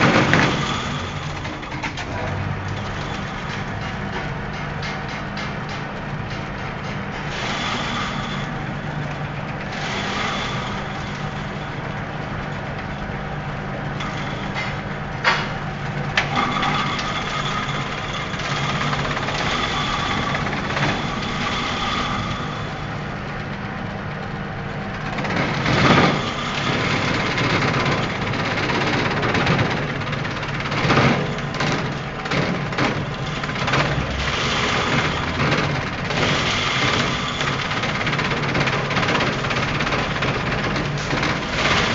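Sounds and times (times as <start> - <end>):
chopping machine engine running: 0.0 - 41.9.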